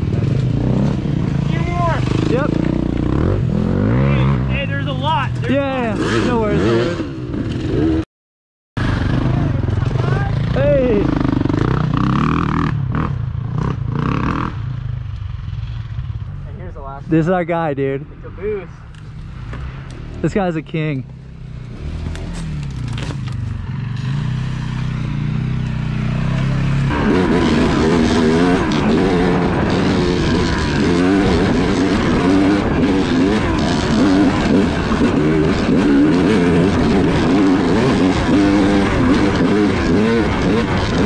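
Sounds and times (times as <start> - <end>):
dirt bike engine revving: 0.0 - 8.0, 8.8 - 16.0, 17.2 - 41.0.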